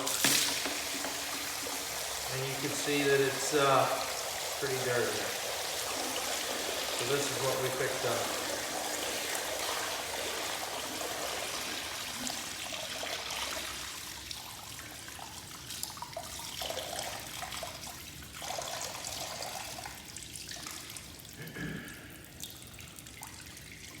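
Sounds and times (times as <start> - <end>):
water draining and splashing: 0.0 - 24.0.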